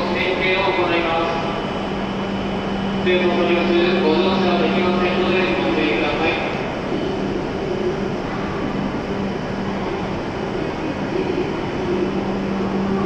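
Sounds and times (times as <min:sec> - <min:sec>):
stationary train humming: 0:00.0 - 0:13.0.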